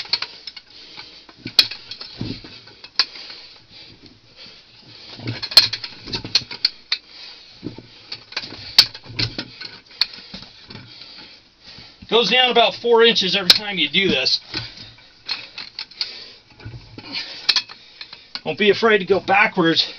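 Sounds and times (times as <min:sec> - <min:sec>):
metal rods clinking: 0:00.0 - 0:03.4, 0:05.1 - 0:07.1, 0:07.7 - 0:11.3, 0:12.2 - 0:19.9.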